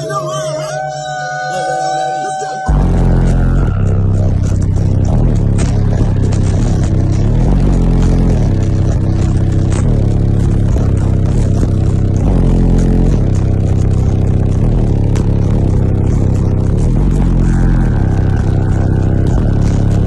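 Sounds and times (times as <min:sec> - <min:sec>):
bass-heavy music through subwoofers: 0:00.0 - 0:20.0.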